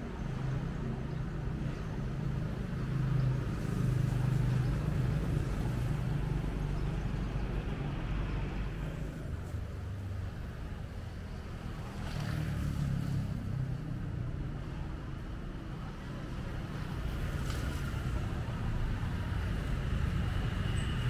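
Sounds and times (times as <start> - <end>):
motorbikes: 0.0 - 21.0
traffic rumble: 0.0 - 21.0.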